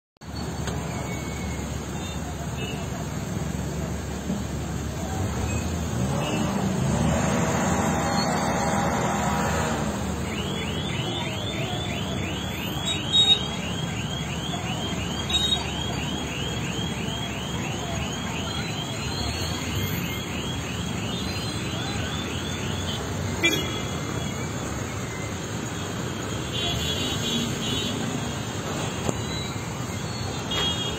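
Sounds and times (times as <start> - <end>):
road traffic rushing: 0.2 - 30.9.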